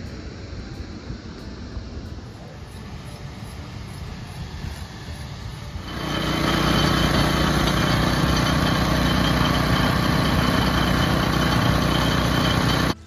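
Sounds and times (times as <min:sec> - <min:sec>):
small engine running: 0:02.5 - 0:13.0.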